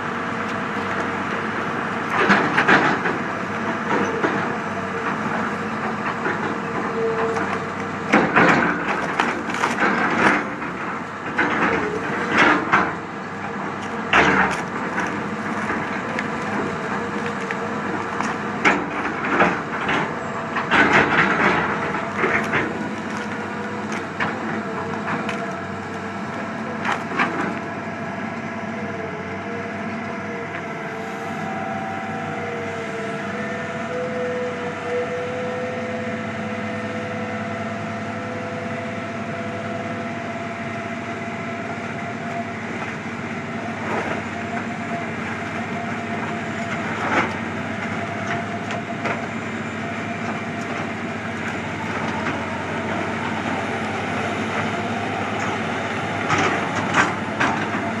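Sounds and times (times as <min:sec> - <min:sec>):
wood chipper running: 0:00.0 - 0:58.0
wood cracking in chipper: 0:00.4 - 0:35.4, 0:40.0 - 0:58.0.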